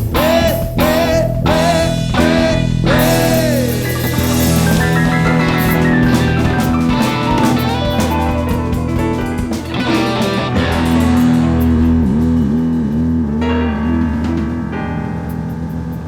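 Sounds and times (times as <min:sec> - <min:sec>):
bass guitar: 0:00.0 - 0:16.0
drum kit: 0:00.0 - 0:16.0
electric guitar lead: 0:00.0 - 0:16.0.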